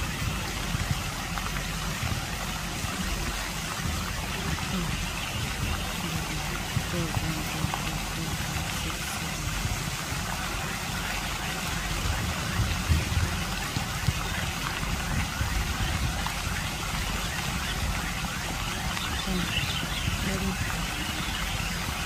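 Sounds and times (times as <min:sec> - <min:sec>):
fountain water splashing: 0:00.0 - 0:22.0
low uneven rumble: 0:00.0 - 0:22.0.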